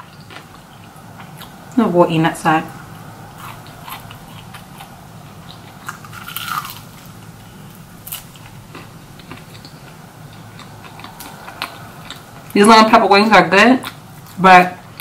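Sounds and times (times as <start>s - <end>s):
chewing: 0.0s - 1.8s, 2.7s - 15.0s.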